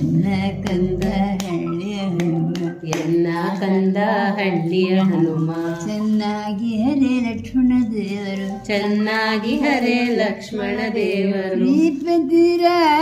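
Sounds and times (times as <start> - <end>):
elderly man singing: 0.0 - 13.0.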